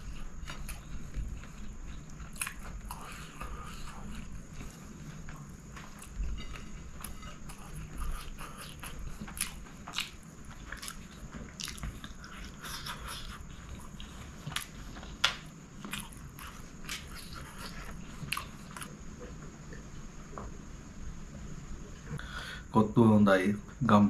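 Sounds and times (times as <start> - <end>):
close-up chewing food: 0.0 - 19.9.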